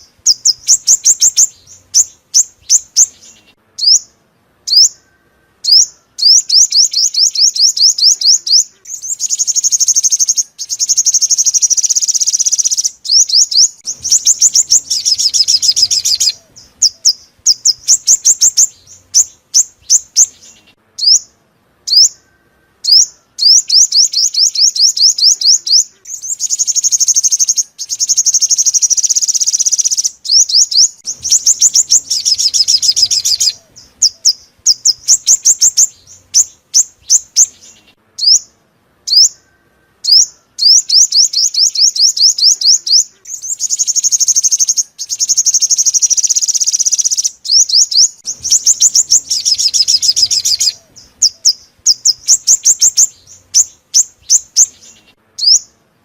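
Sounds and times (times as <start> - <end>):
sunbird chirping: 0.0 - 56.0.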